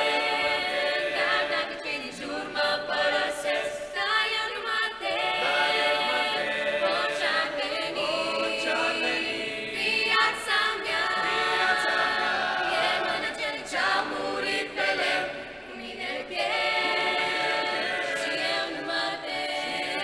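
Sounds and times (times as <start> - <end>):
mixed choir singing a hymn: 0.0 - 20.0.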